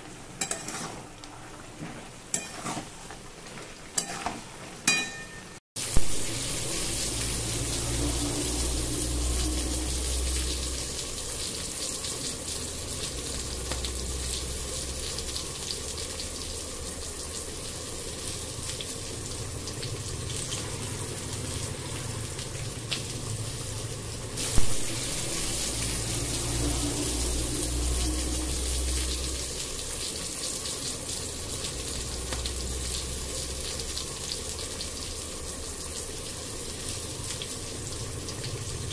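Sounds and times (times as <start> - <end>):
cooktop low hum: 0.0 - 38.9
gravy simmering and bubbling: 0.0 - 38.9.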